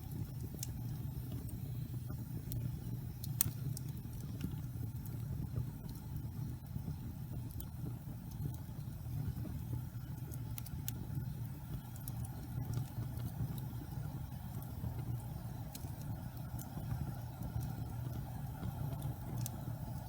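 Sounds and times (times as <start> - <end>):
fire low rumble: 0.0 - 20.0
logs crackling and popping: 0.0 - 20.0.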